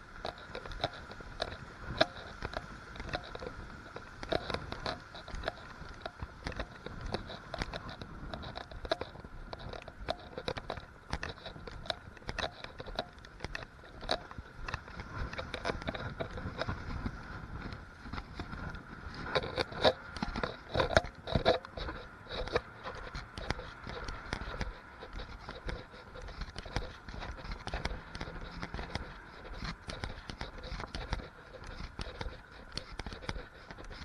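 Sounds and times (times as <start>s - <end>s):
rain ticks and rattles: 0.0s - 34.0s
wind gusts buffeting microphone: 0.0s - 34.0s.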